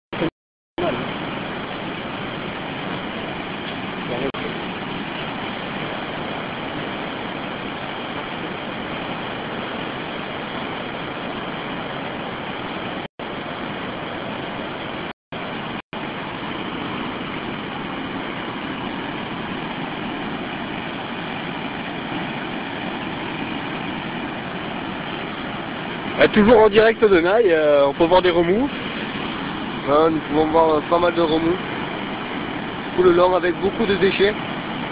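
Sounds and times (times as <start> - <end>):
river rushing in flood: 0.2 - 34.9.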